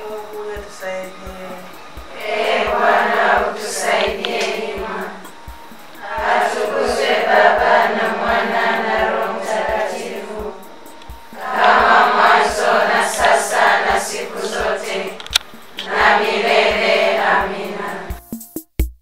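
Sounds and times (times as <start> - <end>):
women's choir singing a hymn: 0.0 - 18.2
soft low beat: 0.0 - 19.0.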